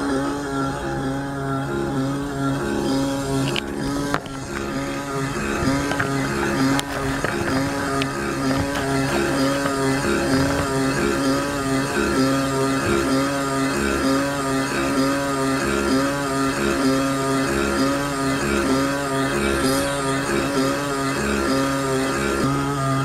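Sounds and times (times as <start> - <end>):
pulsing electric motor hum: 0.0 - 23.0.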